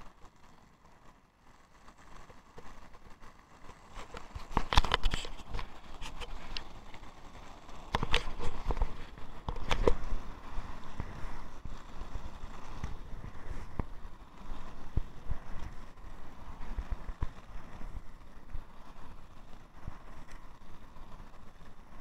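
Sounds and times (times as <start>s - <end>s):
skate wheels rolling on asphalt: 0.0s - 22.0s.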